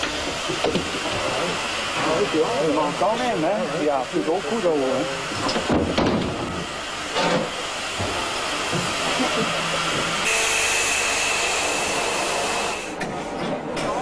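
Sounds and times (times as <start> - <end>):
steam locomotive hissing: 0.0 - 13.2.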